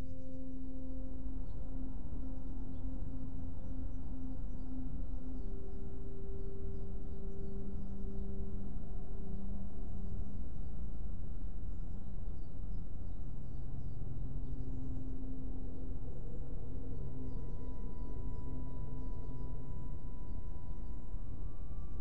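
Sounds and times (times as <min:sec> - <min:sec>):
slow ambient music: 0:00.0 - 0:22.0.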